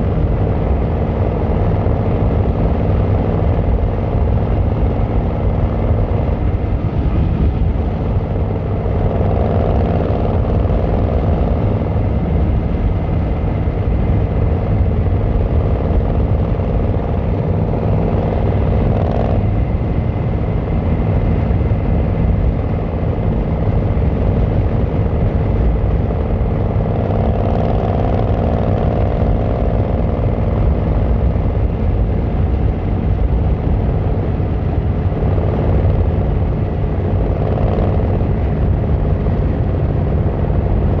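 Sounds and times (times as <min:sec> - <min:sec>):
higher drone: 0:00.0 - 0:41.0
motorcycle engine and exhaust running: 0:00.0 - 0:41.0.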